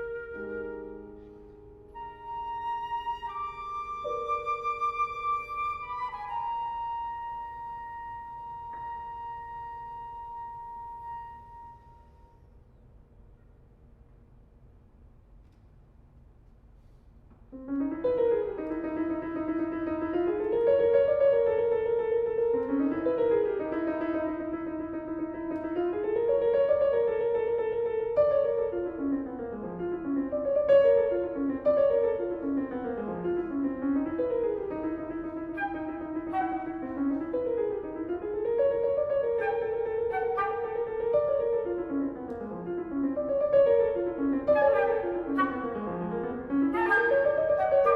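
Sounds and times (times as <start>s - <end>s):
piano music: 0.0s - 12.4s, 17.5s - 47.9s.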